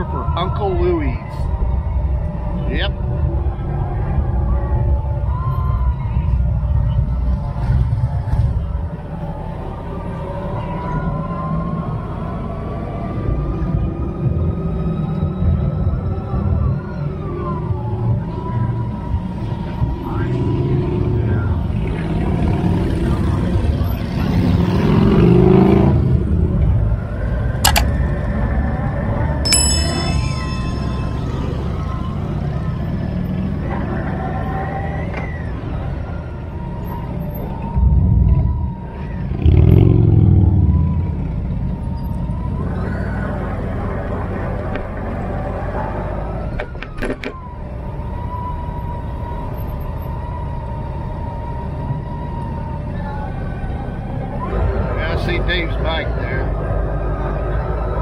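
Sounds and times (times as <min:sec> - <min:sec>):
motorcycle engines: 0:00.0 - 0:58.0
road noise: 0:00.0 - 0:58.0.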